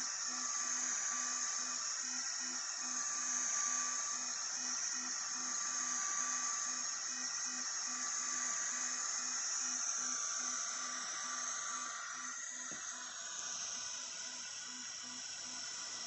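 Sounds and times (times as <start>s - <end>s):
stepper motors buzzing: 0.0s - 16.0s.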